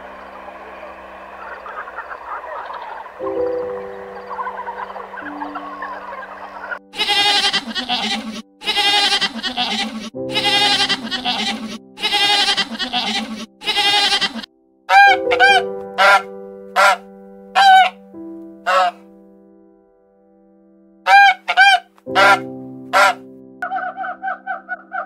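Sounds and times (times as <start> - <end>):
background music: 0.0 - 25.0
loud animal calls: 0.1 - 16.2, 16.8 - 17.0, 17.6 - 18.0, 18.7 - 19.0, 21.1 - 25.0.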